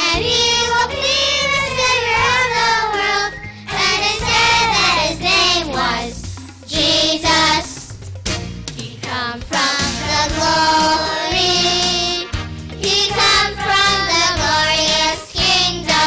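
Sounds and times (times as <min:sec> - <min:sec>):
children's choir singing: 0:00.0 - 0:07.8, 0:09.1 - 0:16.0
instrumental accompaniment: 0:00.0 - 0:16.0.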